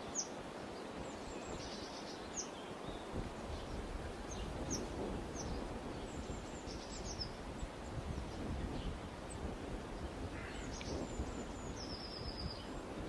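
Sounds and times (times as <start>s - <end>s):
low outdoor noise: 0.0s - 13.0s
small birds chirping: 0.0s - 13.0s.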